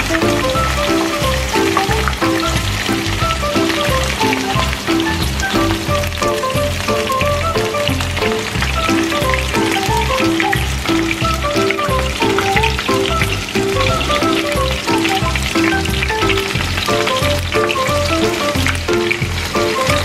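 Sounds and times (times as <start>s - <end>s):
background music with bass line: 0.0s - 20.0s
chicken sizzling in oil: 0.0s - 20.0s.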